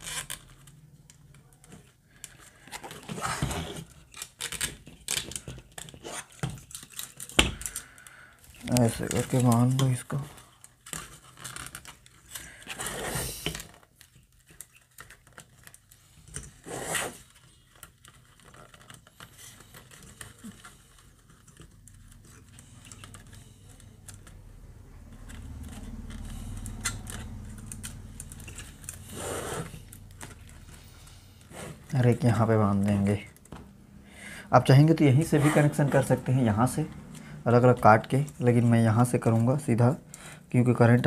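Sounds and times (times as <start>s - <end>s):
wires rustling against plastic: 0.0s - 41.0s.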